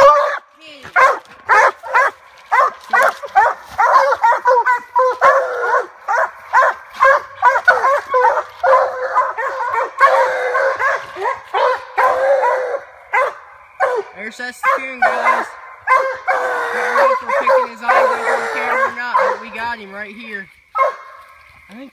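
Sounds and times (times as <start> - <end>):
hounds barking: 0.0 - 21.4.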